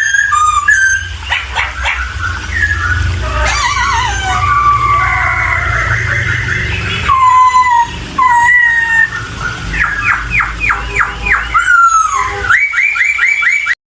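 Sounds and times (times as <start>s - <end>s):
bird singing whistled notes: 0.0s - 3.2s, 5.7s - 13.8s.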